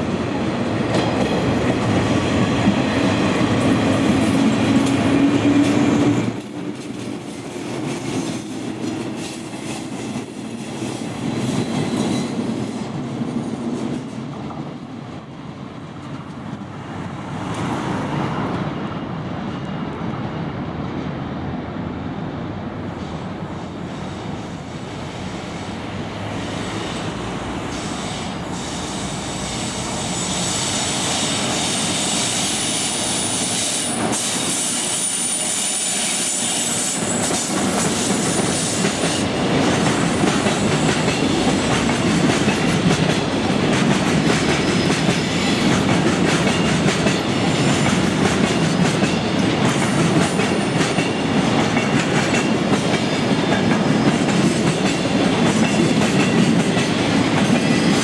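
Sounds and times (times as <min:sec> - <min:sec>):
electric locomotive passing: 0:00.0 - 0:58.0.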